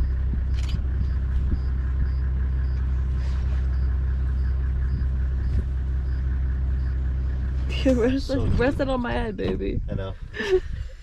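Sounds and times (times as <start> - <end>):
jeep engine idling: 0.0 - 11.0.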